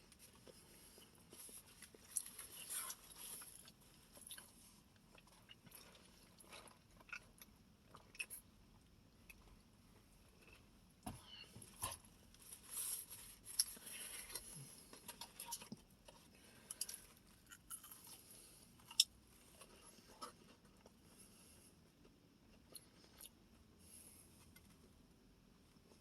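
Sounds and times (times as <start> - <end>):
chewing and crunching food: 0.0 - 23.7.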